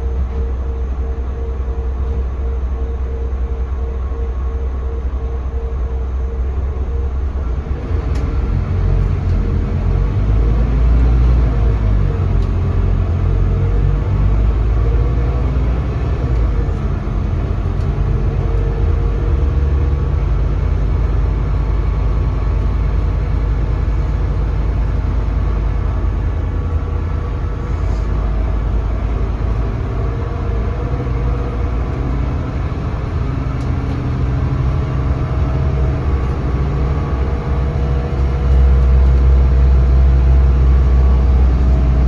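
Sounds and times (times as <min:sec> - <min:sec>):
bus diesel engine running: 0:00.0 - 0:42.0
road rumble: 0:00.0 - 0:42.0.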